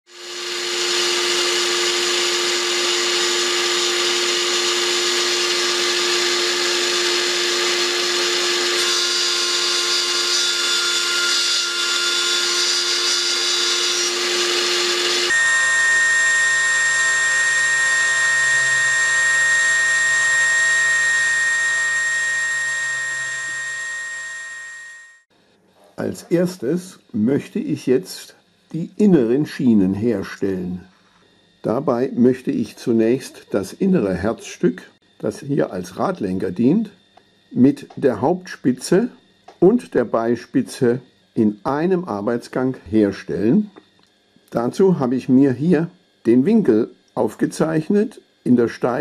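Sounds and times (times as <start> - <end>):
milling machine whine: 0.1 - 25.3, 26.0 - 49.0
steady machine hum: 0.1 - 49.0.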